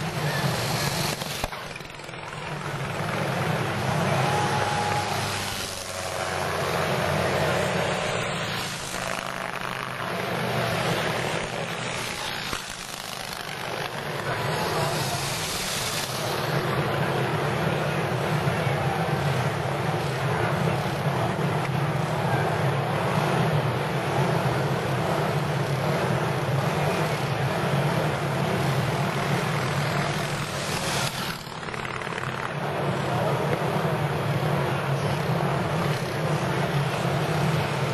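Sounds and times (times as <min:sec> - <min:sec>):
motorcycle engine running at speed: 0:00.0 - 0:37.9.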